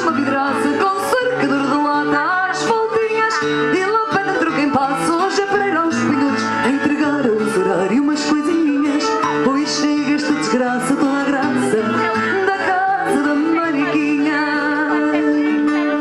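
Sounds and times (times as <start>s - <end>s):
guitars playing: 0.0s - 16.0s
woman singing: 0.0s - 16.0s.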